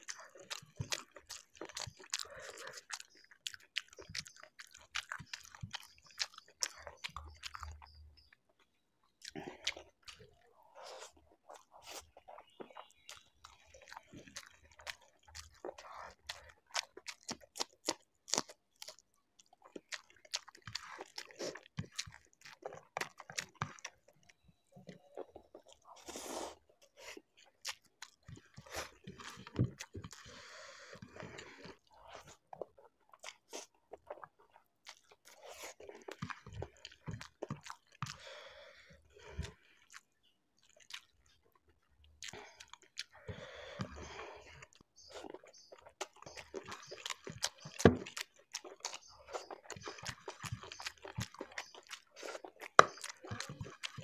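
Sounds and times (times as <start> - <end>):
chewing and mouth smacking: 0.0 - 54.0.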